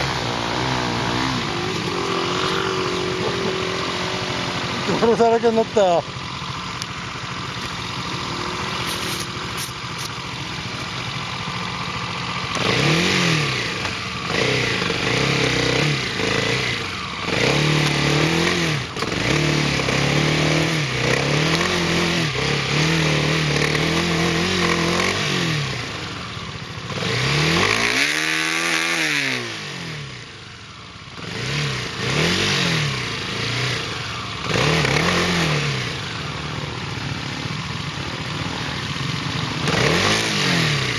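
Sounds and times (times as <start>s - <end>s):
off-road vehicle engine revving: 0.0s - 30.5s, 31.1s - 40.9s.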